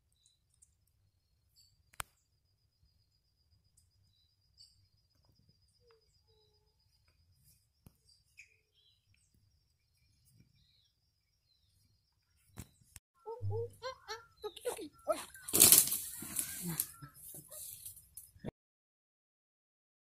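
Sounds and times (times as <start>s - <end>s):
faint bird chirps: 0.0s - 18.5s.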